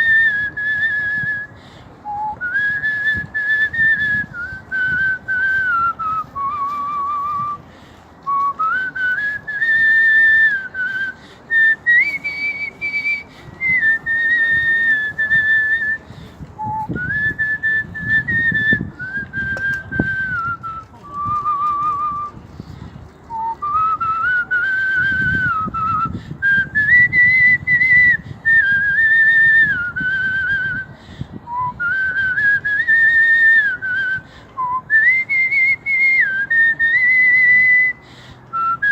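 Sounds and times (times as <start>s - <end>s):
man whistling a melody: 0.0s - 7.6s, 8.2s - 16.0s, 16.6s - 22.4s, 23.3s - 38.9s.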